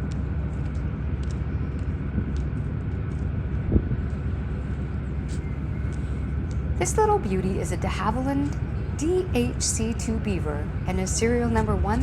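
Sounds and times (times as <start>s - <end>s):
propeller engine droning: 0.0s - 12.0s.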